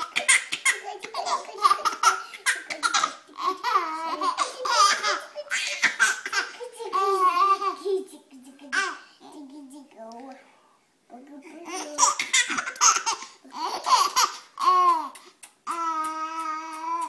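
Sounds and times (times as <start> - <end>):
baby laughing: 0.0 - 9.8, 11.6 - 17.0.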